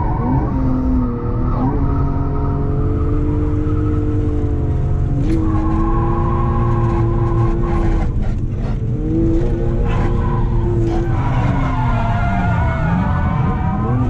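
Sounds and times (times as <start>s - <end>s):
car engine at high revs: 0.0s - 14.0s.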